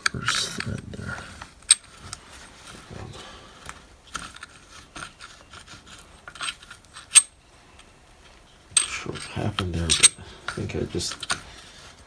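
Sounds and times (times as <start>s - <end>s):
metallic clicks and scrapes: 0.0s - 12.0s.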